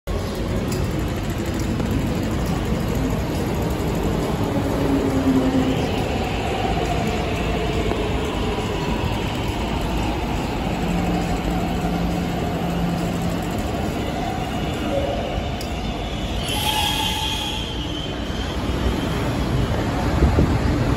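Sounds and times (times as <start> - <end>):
electric train running rumble: 0.1 - 20.9.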